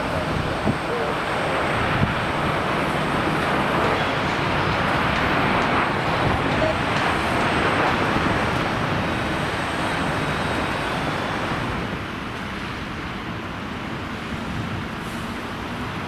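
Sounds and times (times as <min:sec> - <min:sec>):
wind buffeting microphone: 0:00.0 - 0:13.6
jet engines of passing airliner: 0:00.0 - 0:16.0.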